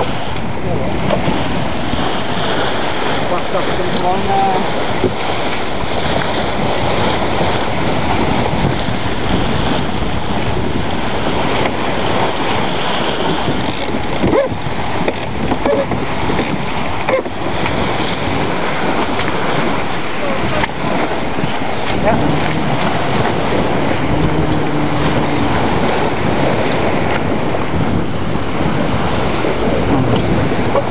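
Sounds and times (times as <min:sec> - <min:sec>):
water rushing along a hull: 0:00.0 - 0:30.9
wind buffeting microphone: 0:00.0 - 0:30.9.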